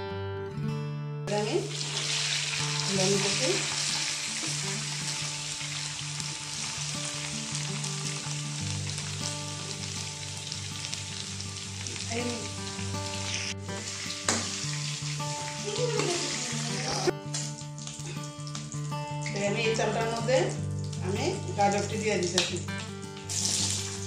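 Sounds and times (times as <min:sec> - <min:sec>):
food sizzling in hot oil: 0:01.4 - 0:24.0.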